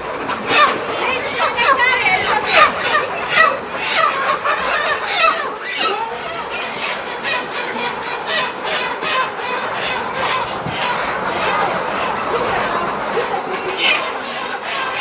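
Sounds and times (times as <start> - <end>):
young chickens squawking: 0.0 - 15.0.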